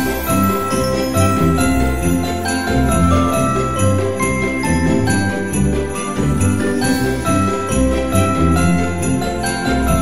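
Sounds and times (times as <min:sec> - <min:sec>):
christmas music: 0:00.0 - 0:10.0
christmas music with sleigh bells: 0:00.0 - 0:10.0.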